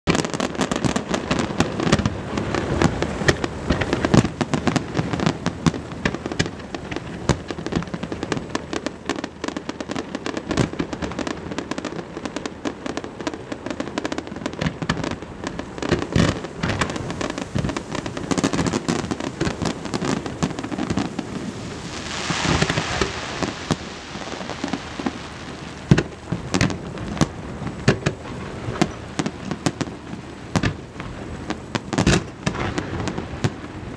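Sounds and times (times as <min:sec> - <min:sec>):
fireworks bangs and crackling: 0:00.1 - 0:33.9.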